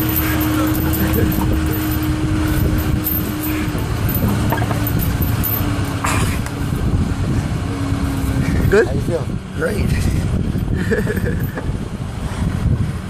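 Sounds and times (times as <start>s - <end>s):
constant hum: 0.0s - 13.0s
truck engine and road rumble: 0.0s - 13.0s.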